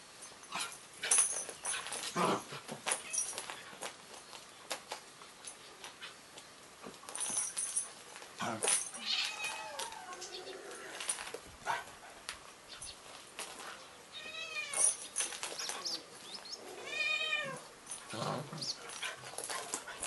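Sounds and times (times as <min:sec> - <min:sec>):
animals scuffling: 0:00.4 - 0:20.0.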